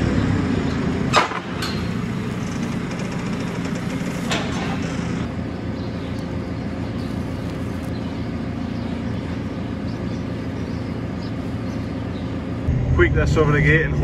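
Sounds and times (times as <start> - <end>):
loader engine running: 0.0 - 14.0.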